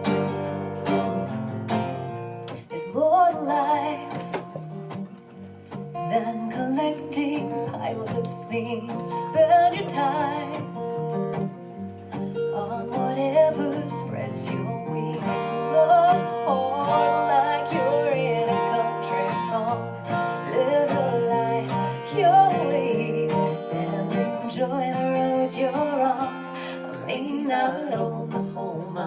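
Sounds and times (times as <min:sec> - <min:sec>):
acoustic guitar strumming: 0:00.0 - 0:29.0
person singing: 0:02.5 - 0:04.6, 0:06.0 - 0:10.8, 0:12.4 - 0:29.0.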